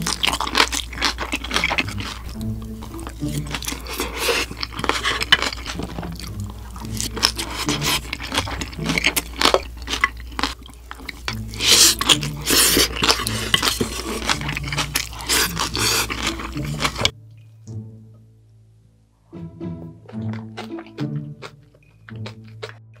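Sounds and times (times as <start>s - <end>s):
crunchy chewing: 0.0s - 17.2s, 20.1s - 23.0s.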